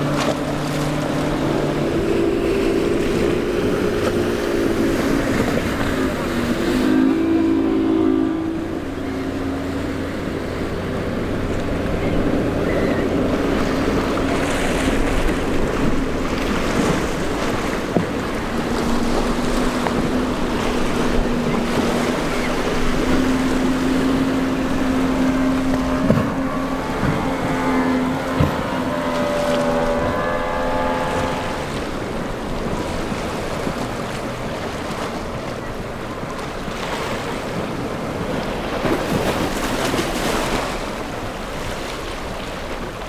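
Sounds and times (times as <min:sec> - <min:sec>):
outboard motor humming: 0:00.0 - 0:43.0
surf and spray rushing: 0:00.0 - 0:43.0.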